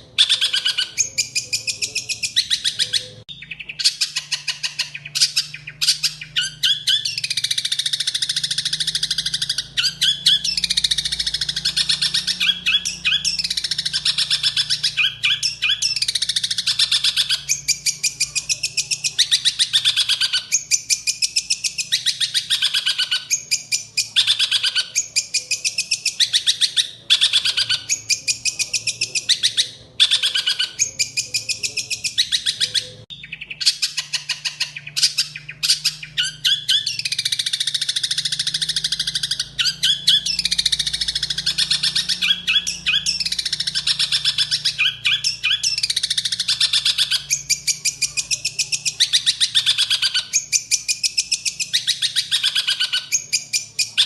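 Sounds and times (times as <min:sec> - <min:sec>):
songbird chattering song: 0:00.0 - 0:54.0.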